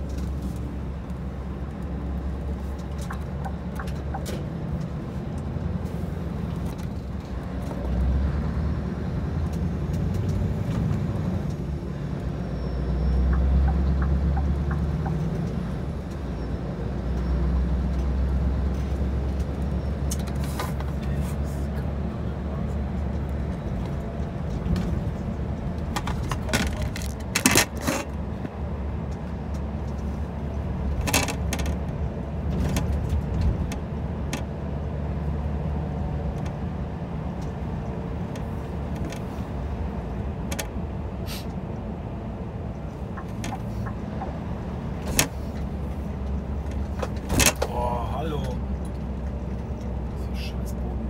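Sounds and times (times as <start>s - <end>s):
diesel truck engine drone: 0.0s - 51.0s.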